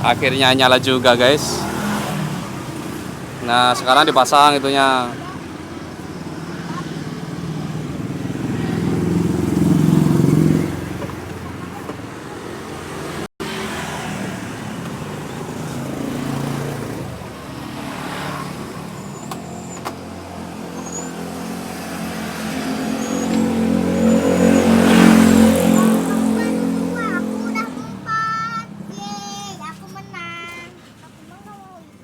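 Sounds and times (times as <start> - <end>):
vehicle engine passing: 0.0 - 31.3.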